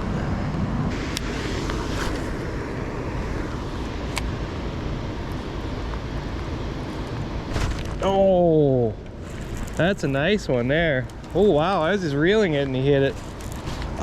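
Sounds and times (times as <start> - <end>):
rain hissing: 0.9 - 14.0.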